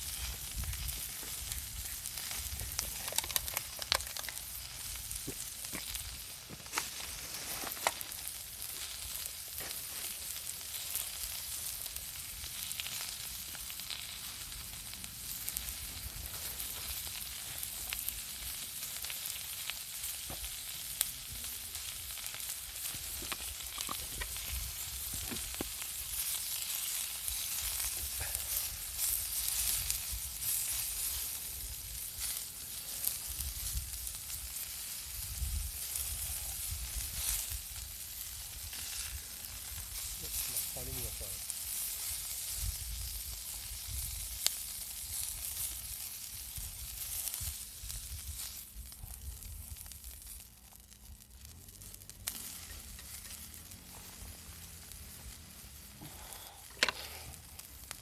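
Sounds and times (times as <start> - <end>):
food sizzling on a griddle: 0.0 - 58.0.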